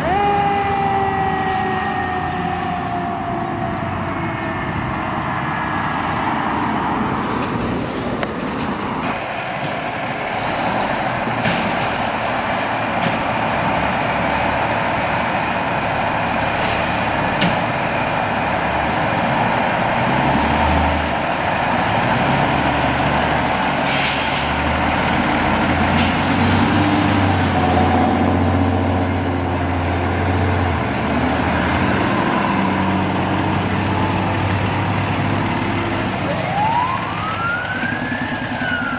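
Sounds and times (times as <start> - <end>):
diesel engine running: 0.0 - 38.9
street traffic: 0.0 - 38.9.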